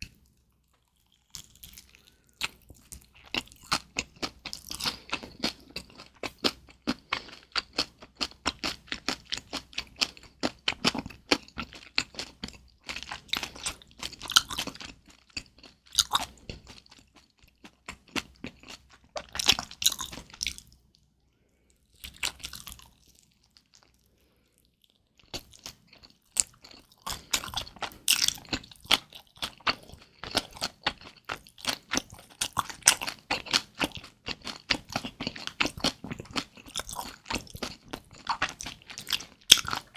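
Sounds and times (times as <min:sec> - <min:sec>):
wet crunchy chewing: 0:00.8 - 0:20.8, 0:22.0 - 0:23.9, 0:24.9 - 0:39.9.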